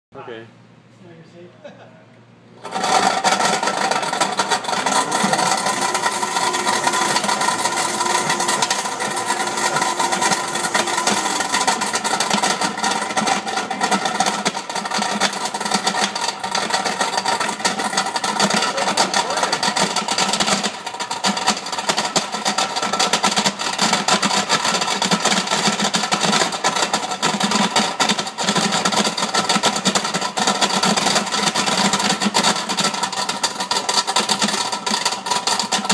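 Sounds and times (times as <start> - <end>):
blender motor running: 2.6 - 35.9
steel balls clattering in jar: 2.6 - 35.9.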